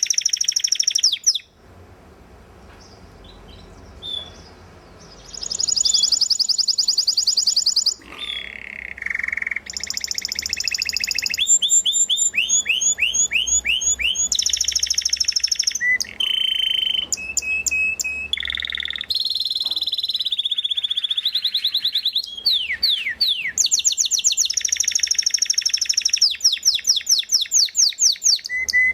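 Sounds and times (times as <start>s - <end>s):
canary singing fast trills: 0.0s - 1.6s, 2.8s - 28.9s.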